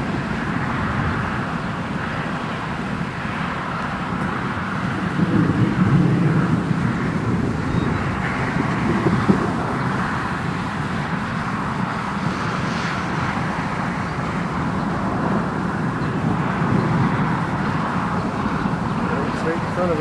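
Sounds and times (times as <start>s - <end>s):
distant roar of hail: 0.0s - 20.0s.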